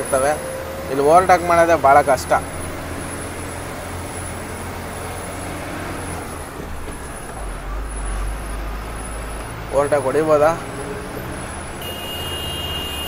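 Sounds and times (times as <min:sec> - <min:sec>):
road noise: 0:00.0 - 0:13.0
truck diesel engine under load: 0:00.0 - 0:13.0.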